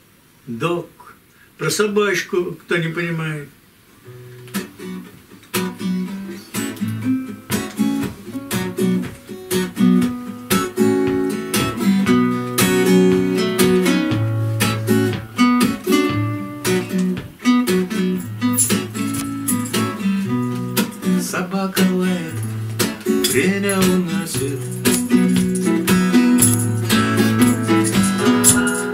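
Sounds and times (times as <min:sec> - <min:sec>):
acoustic guitars strumming: 0:04.0 - 0:28.9.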